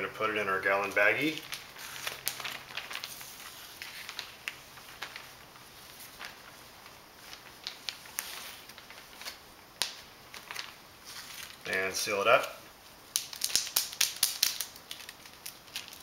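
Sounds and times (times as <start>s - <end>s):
plastic bag crinkling: 0.2s - 16.0s.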